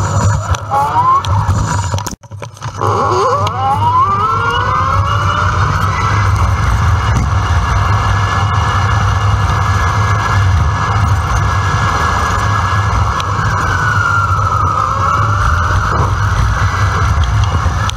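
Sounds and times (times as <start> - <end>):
wind rumble on microphone: 0.0 - 17.9
electric bike motor whining: 2.8 - 17.9.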